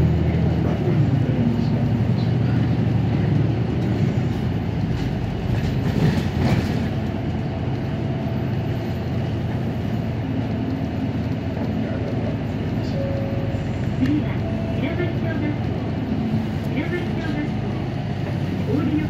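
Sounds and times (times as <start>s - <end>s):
bus engine droning: 0.0s - 19.0s
road noise: 0.0s - 19.0s.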